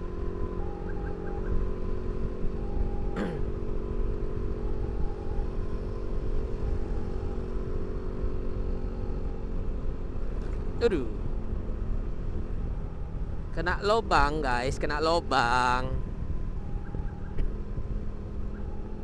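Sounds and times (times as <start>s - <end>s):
motorcycle engine cruising: 0.0s - 19.0s
wind and road rumble: 0.0s - 19.0s.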